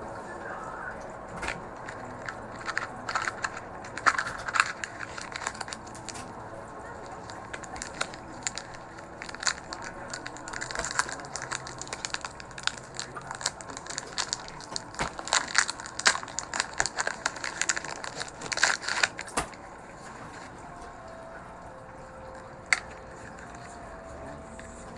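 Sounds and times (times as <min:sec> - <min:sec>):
foil wrapper crinkling: 0:00.0 - 0:24.9.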